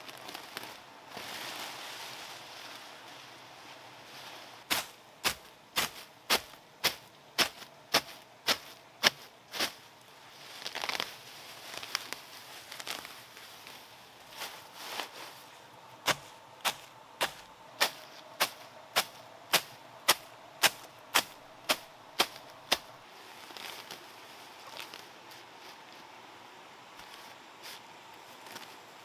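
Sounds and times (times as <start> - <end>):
cut grass rustling: 0.0 - 26.1, 27.0 - 29.0.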